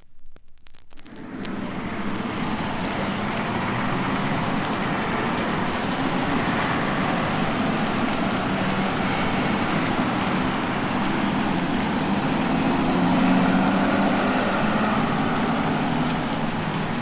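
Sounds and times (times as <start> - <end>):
steady vehicle noise: 1.0 - 17.0.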